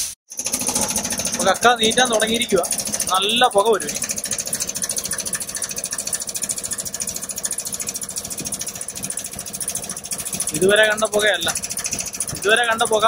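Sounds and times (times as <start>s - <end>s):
small engine running with fast pulse: 0.3s - 13.0s.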